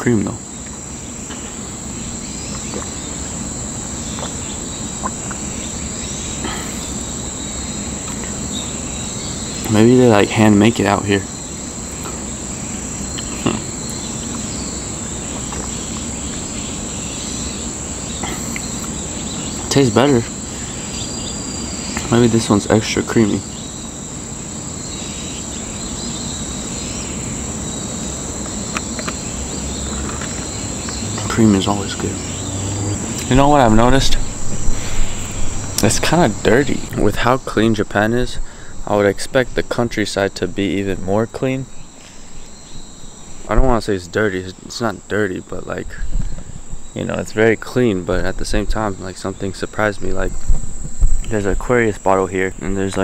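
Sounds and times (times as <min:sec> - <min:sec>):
insects chirring: 0:00.0 - 0:53.0
outdoor hiss: 0:00.0 - 0:53.0.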